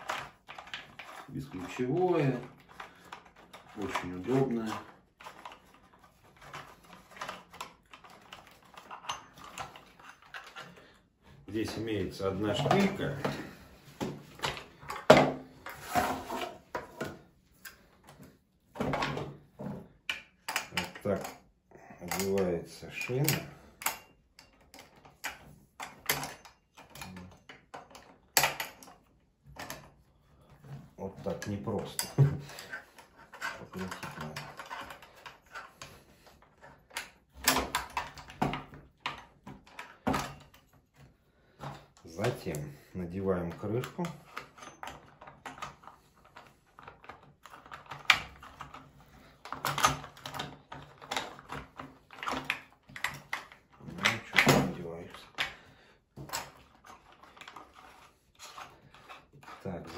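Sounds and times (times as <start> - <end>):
plastic and metal parts knocking: 0.0 - 59.9.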